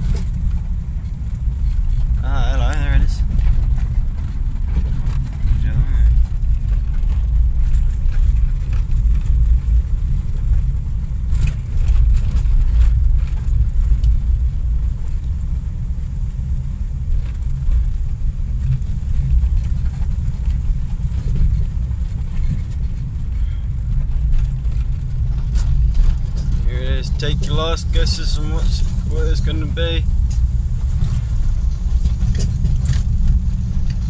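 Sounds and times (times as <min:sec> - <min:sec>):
engine and tyre rumble: 0:00.0 - 0:34.0.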